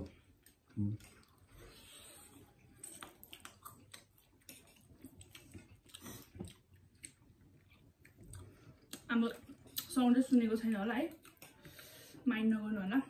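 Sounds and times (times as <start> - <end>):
chewing noodles: 0.2 - 10.3, 11.1 - 12.2.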